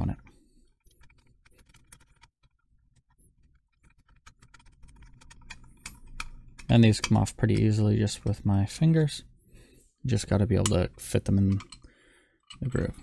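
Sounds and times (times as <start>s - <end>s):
metallic clicks and scrapes: 0.1s - 9.1s, 10.1s - 13.0s.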